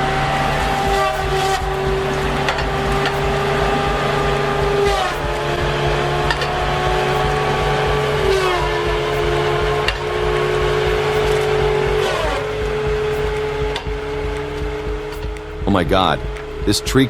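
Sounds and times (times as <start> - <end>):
heavy machine engine whining: 0.0 - 17.0
sharp clicks: 0.0 - 17.0.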